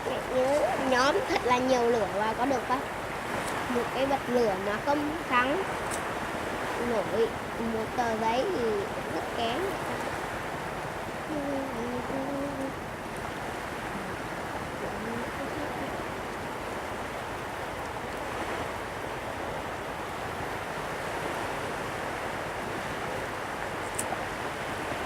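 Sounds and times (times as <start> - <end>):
sea surf washing on beach: 0.0 - 25.0
wind buffeting microphone: 0.0 - 25.0.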